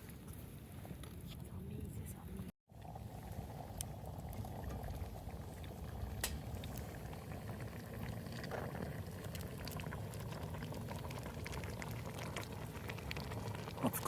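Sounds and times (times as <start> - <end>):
liquid bubbling at a boil: 2.7 - 14.0.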